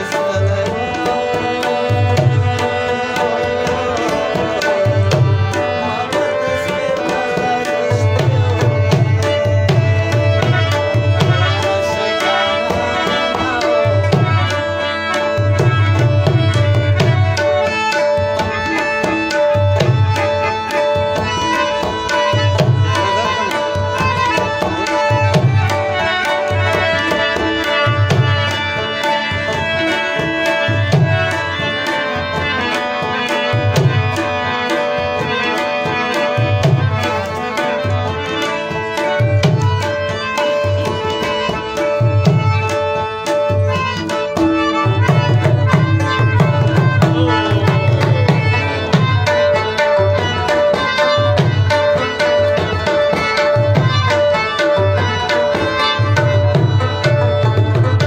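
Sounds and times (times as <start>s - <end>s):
harmonium notes: 0.0s - 58.0s
plucked strings: 0.0s - 58.0s
tabla rhythm: 0.0s - 58.0s.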